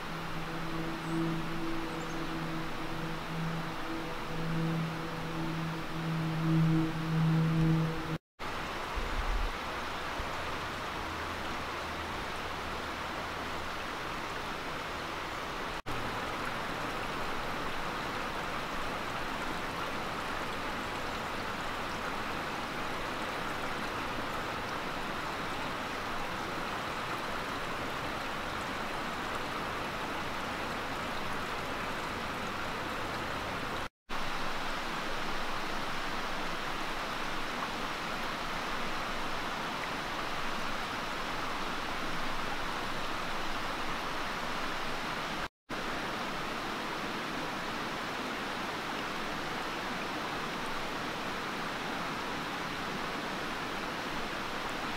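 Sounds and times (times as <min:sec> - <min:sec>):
creek water babbling over rocks: 0:00.0 - 0:54.9.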